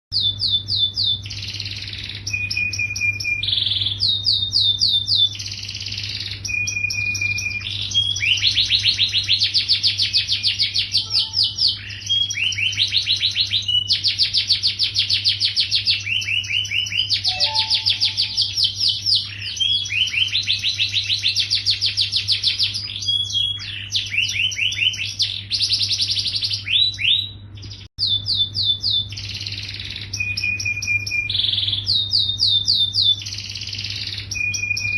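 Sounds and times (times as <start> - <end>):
canary trilling song: 0.1 - 34.9.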